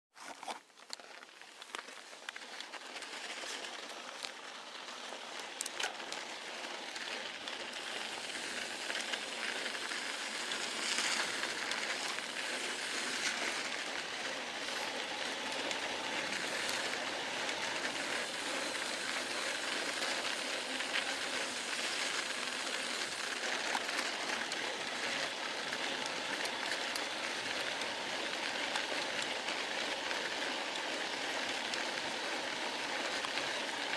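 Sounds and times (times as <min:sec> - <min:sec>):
rain falling: 0:06.6 - 0:33.9.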